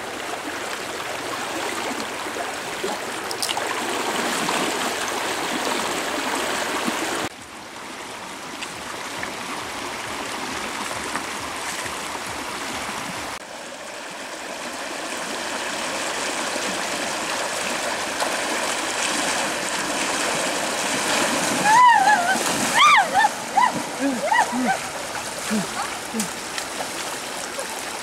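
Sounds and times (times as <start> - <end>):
river rushing over stones: 0.0 - 28.0.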